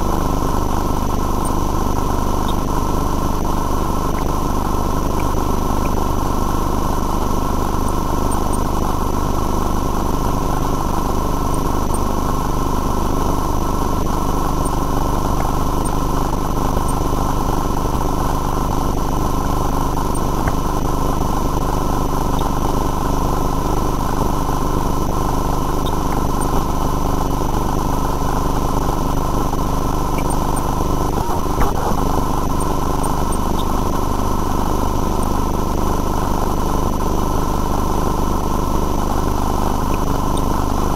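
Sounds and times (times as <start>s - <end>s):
machine hum with whine: 0.0s - 40.9s.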